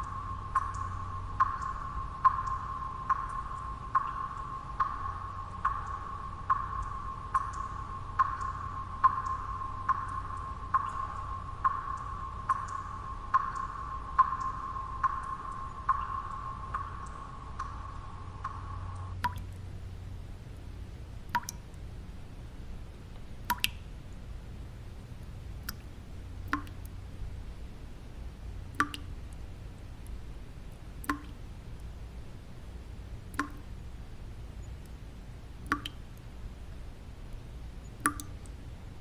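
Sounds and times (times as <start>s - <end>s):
water drops plinking: 0.0s - 18.6s, 19.2s - 20.6s, 21.2s - 24.3s, 25.2s - 35.0s, 35.6s - 36.3s, 37.3s - 38.6s
faint steady low noise: 0.0s - 39.0s.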